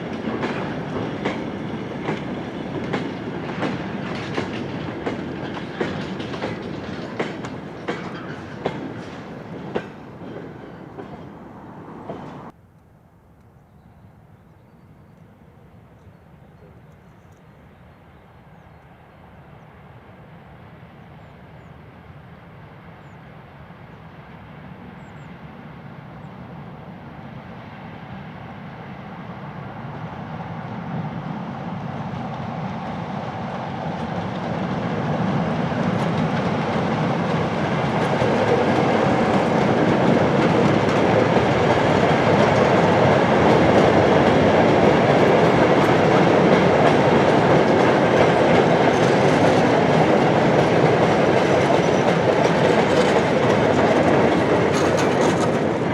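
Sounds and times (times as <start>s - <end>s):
train running on tracks: 0.0s - 12.6s, 15.1s - 55.9s.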